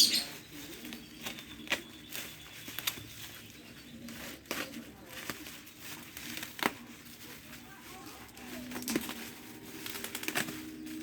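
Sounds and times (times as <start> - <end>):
packaging clicks and rustling: 0.6 - 11.0.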